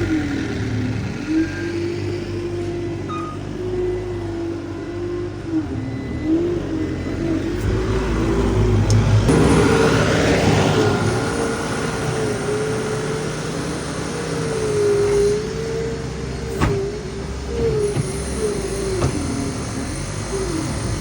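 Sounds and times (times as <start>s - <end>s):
loader diesel engine under load: 0.0s - 21.0s.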